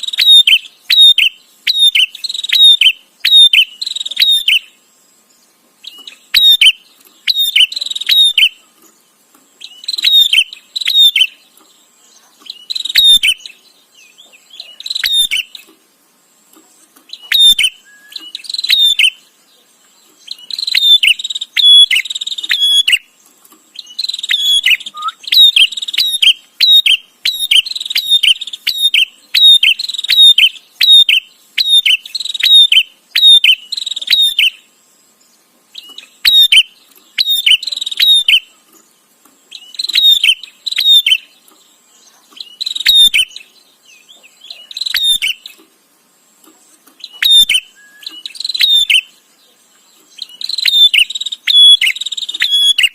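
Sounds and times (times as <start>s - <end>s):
bird chirping in bursts: 0.0s - 52.9s.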